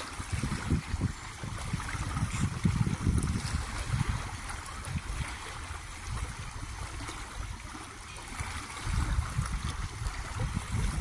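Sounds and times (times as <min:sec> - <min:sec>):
small waves lapping on shore: 0:00.0 - 0:11.0.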